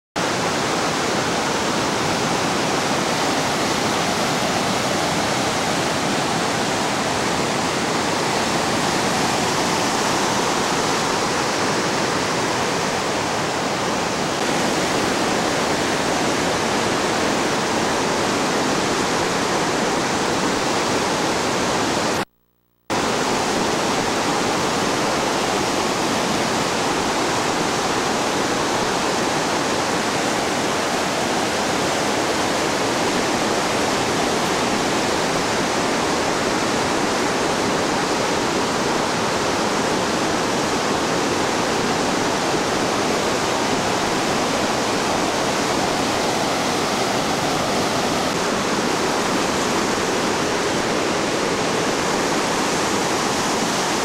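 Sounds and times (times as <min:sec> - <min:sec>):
river rushing over rocks: 0:00.2 - 0:22.2, 0:22.9 - 0:54.0.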